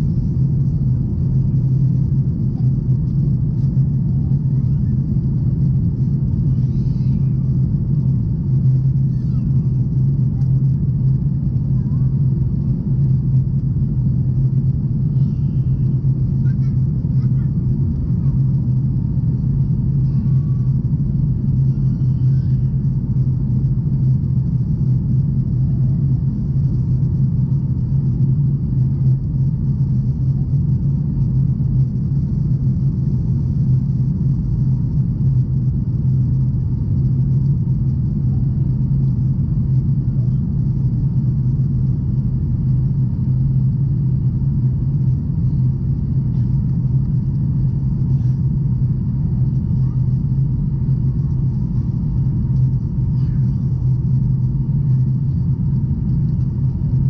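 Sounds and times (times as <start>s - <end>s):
jet engine cabin drone: 0.0s - 57.0s.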